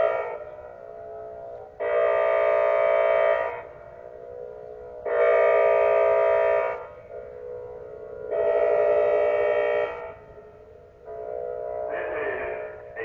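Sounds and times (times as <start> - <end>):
tornado warning siren wailing: 0.0 - 13.0.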